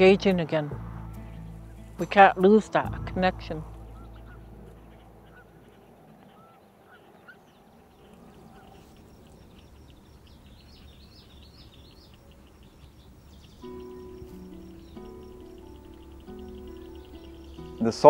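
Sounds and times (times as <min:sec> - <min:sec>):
distant bird calls: 0:00.0 - 0:18.0.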